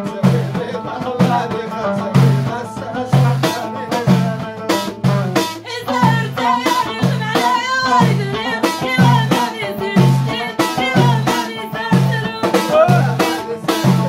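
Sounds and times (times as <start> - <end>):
frame drums: 0.0 - 14.0
woman singing: 0.0 - 14.0.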